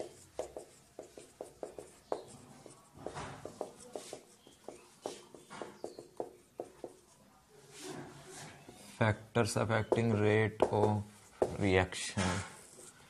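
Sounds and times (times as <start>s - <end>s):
marker pen writing on whiteboard: 0.0s - 9.0s, 9.8s - 13.0s.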